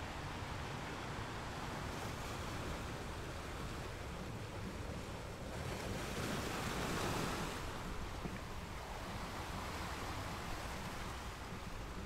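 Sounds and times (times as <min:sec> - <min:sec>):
waves washing onto a beach: 0:00.0 - 0:12.0.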